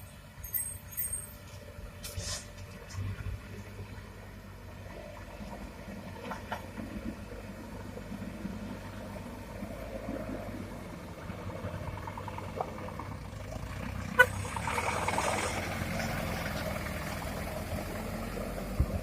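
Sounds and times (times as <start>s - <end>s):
heavy diesel engines running: 0.0s - 19.0s.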